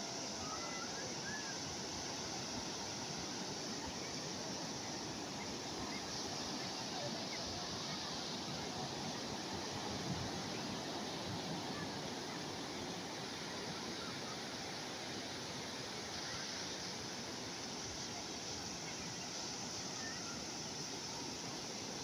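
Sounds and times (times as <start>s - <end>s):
calm sea waves washing: 0.0s - 22.0s.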